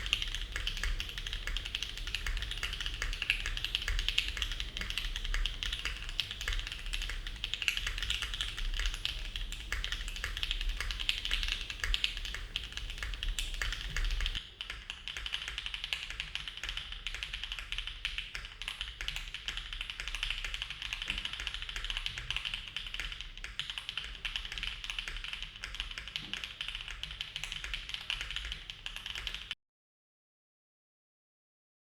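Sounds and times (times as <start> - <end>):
mechanical keyboard typing: 0.0 - 29.6.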